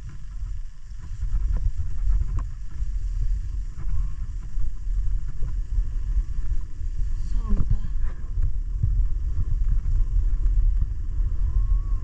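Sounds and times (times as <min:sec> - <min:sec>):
snowboard scraping on snow: 0:00.0 - 0:12.0
wind buffeting microphone: 0:00.0 - 0:12.0.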